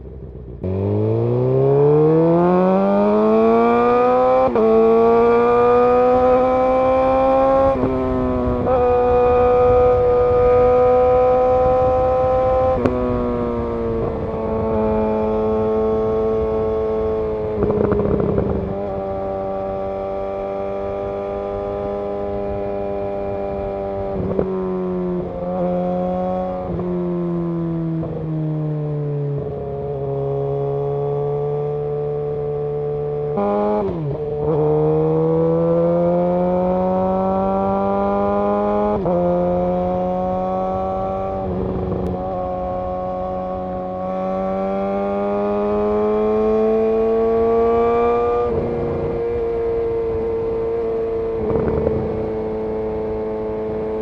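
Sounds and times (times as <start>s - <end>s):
motorcycle engine running: 3.9s - 27.0s, 31.4s - 54.0s.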